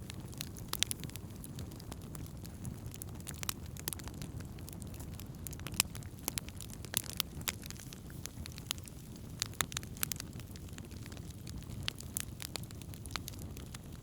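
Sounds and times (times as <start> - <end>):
campfire crackling and popping: 0.0 - 14.0
fire low rumble: 0.0 - 14.0.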